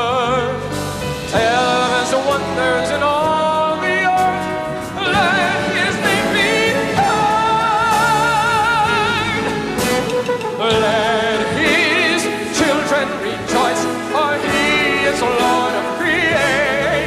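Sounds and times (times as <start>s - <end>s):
steady musical accompaniment: 0.0s - 17.0s
hymn sung with vibrato: 1.2s - 9.9s, 10.6s - 17.0s.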